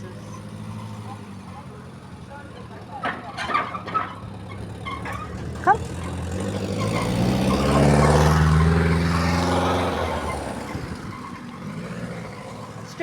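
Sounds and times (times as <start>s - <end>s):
bus driving past: 0.0s - 13.0s.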